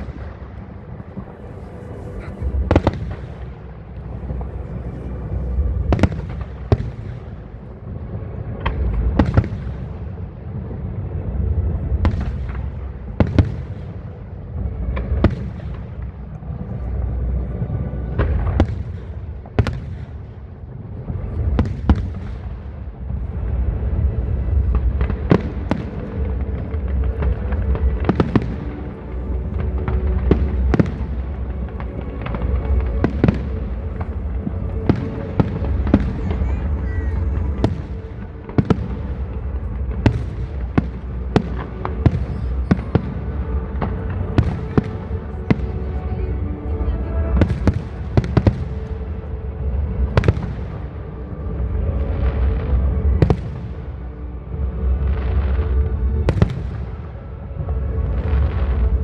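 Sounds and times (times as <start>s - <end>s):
low rumble of explosions: 0.0s - 59.0s.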